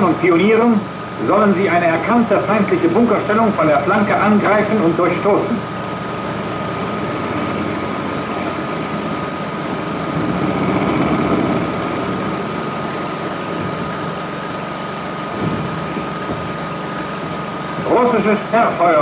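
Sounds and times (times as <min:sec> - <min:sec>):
high-pitched whine: 0:00.0 - 0:19.0
tracked vehicle engines rumbling: 0:00.0 - 0:19.0.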